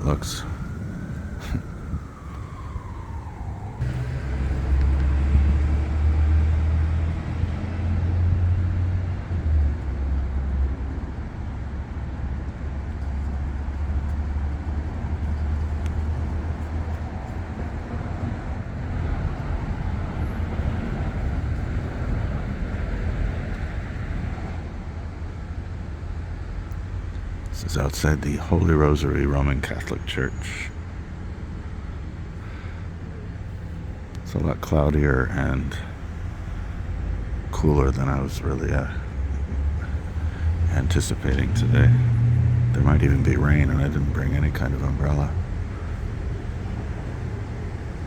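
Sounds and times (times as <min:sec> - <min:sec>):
vehicles passing with low rumble: 0:00.0 - 0:48.0.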